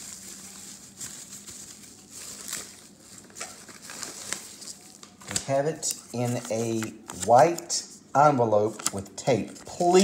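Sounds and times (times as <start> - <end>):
paper envelope rustling: 0.0 - 7.6, 8.6 - 10.0.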